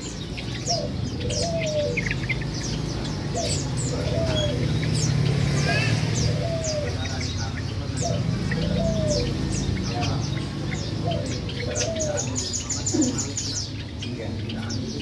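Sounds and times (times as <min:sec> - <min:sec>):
starlings chirping and whistling: 0:00.0 - 0:15.0.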